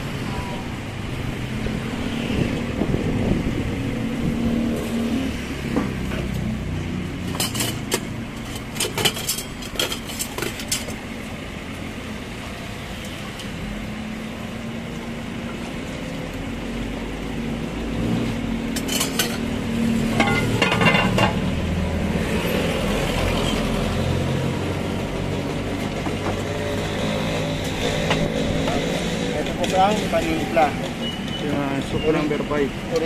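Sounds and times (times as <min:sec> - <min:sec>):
motor vehicle hum: 0:00.0 - 0:33.0.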